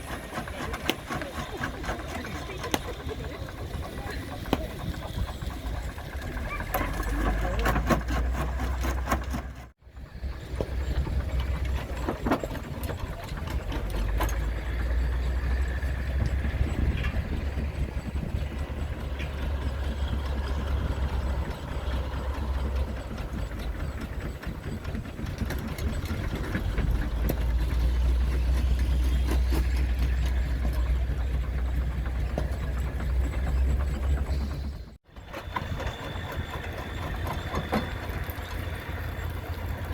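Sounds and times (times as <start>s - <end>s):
deep mechanical rumble: 0.0s - 39.9s
stone crusher running: 0.0s - 39.9s.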